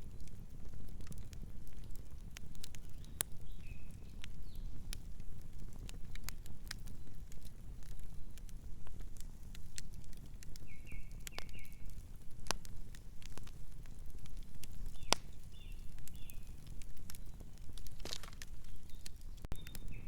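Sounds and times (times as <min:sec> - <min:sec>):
low rumble of flames: 0:00.0 - 0:20.0
wood popping and crackling: 0:00.0 - 0:20.0.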